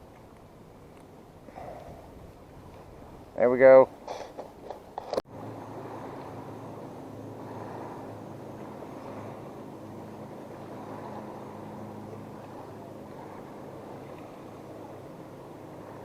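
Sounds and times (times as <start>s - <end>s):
motorboat engine droning: 0.0s - 16.0s.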